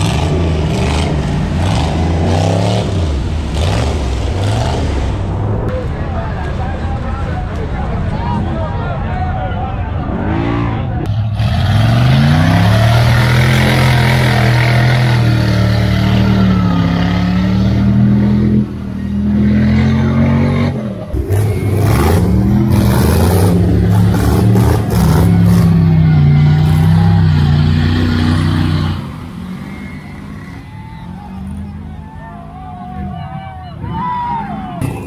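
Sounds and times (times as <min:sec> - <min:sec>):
truck churning through mud: 0:00.0 - 0:08.6, 0:09.9 - 0:33.1
truck engine revving: 0:00.0 - 0:35.0.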